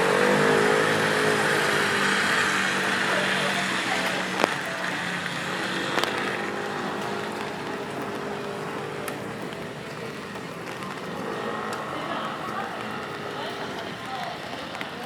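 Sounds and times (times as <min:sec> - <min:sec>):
car passing on wet road: 0:00.0 - 0:15.0
rain hissing: 0:00.0 - 0:15.0
traffic on wet street: 0:00.0 - 0:15.0.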